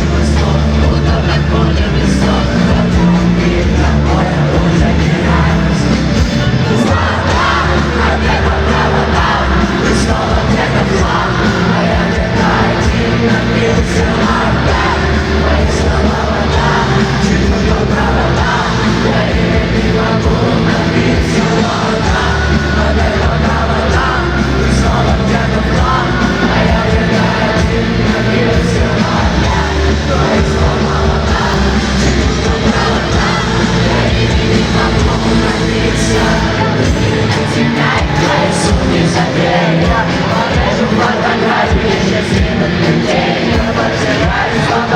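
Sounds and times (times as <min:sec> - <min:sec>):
live rock band playing: 0:00.0 - 0:44.9
person singing: 0:00.0 - 0:44.9.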